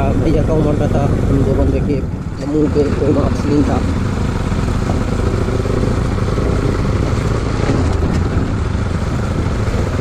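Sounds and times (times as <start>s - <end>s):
motorcycle engine cruising: 0.0s - 10.0s
road noise: 0.0s - 10.0s
wind noise: 0.0s - 10.0s.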